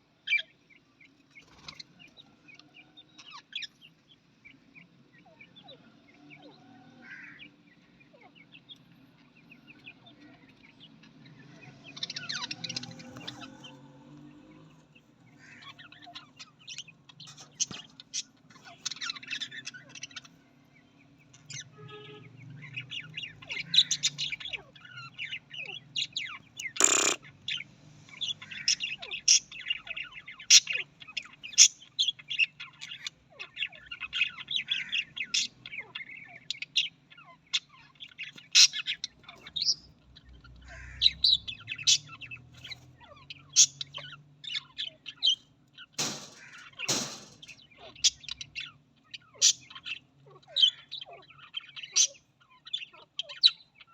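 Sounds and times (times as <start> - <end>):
budgerigars chirping: 0.2 - 13.8, 14.9 - 21.7, 22.6 - 53.9
harsh bird calls: 0.2 - 53.9.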